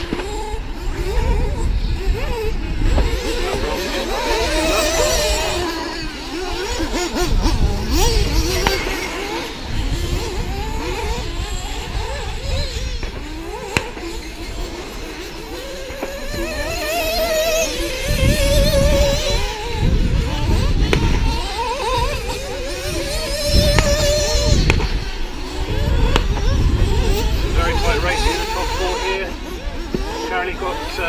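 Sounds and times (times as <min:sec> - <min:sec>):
radio-controlled car motors: 0:00.0 - 0:31.0.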